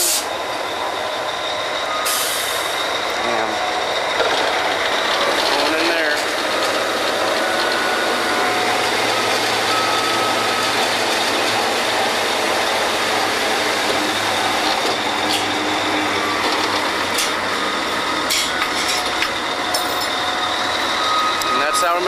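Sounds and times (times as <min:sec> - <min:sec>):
drilling rig machinery din: 0:00.0 - 0:22.0.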